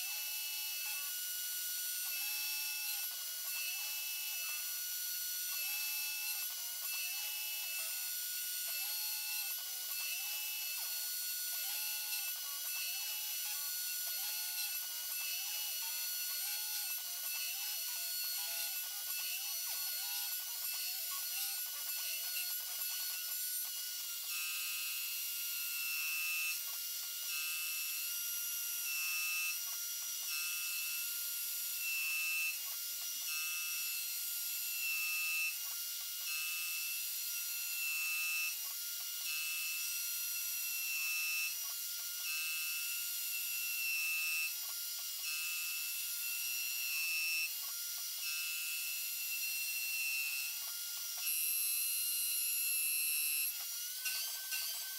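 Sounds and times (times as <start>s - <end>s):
intermittent tone: 0.0s - 54.9s
mill cutting metal whine: 0.0s - 54.9s.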